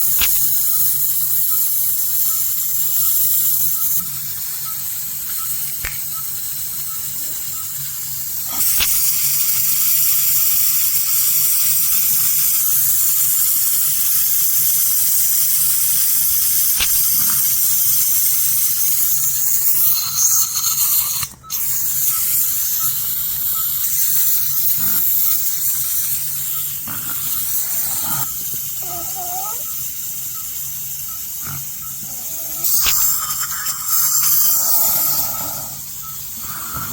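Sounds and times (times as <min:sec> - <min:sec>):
sharp clicks: 0:00.0 - 0:28.9, 0:29.6 - 0:36.9
dental scaler hissing: 0:00.0 - 0:36.9.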